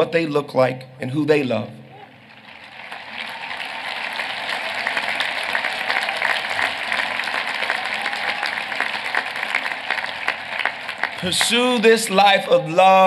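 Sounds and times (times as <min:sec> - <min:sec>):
audience applauding: 0:02.0 - 0:13.0.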